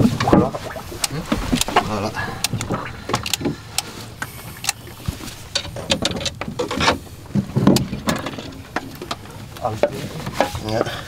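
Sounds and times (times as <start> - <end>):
clicks and knocks on a boat: 0.0 - 11.0.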